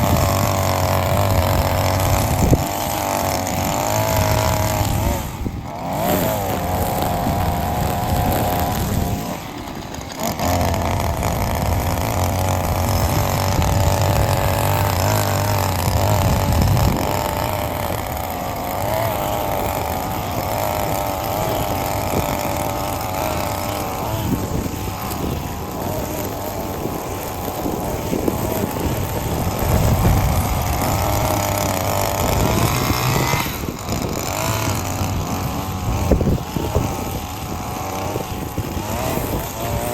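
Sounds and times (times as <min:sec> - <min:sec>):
mower engine cutting grass: 0:00.0 - 0:39.9.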